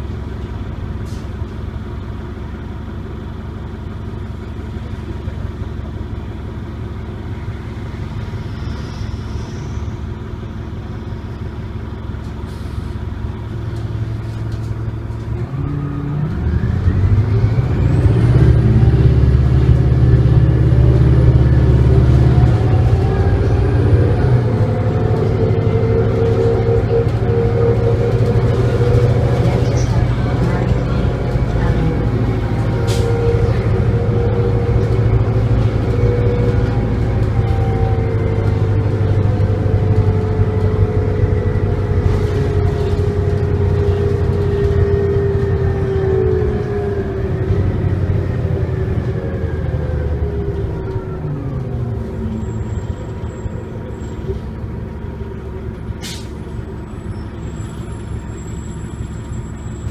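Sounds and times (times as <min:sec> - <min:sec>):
bus engine and road noise: 0:00.0 - 0:59.9
bus engine revving: 0:04.2 - 0:59.9.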